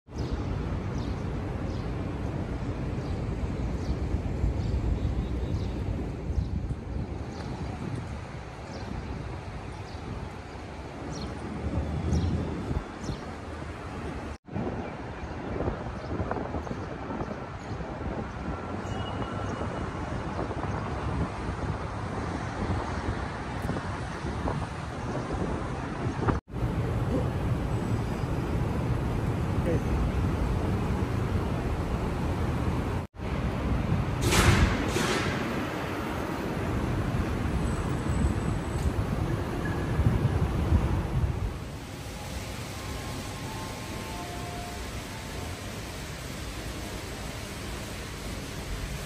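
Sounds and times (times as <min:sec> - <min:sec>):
traffic rumble: 0:00.1 - 0:49.0
wind buffeting microphone: 0:02.2 - 0:41.8.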